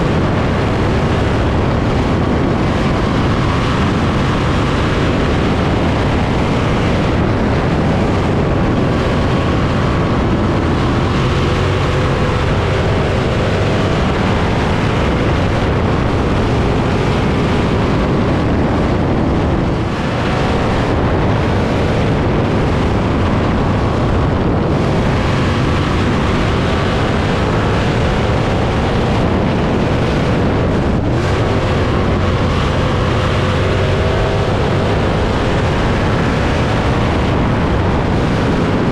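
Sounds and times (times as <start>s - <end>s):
racing car engine running hard: 0.0s - 38.9s
wind rush: 0.0s - 38.9s.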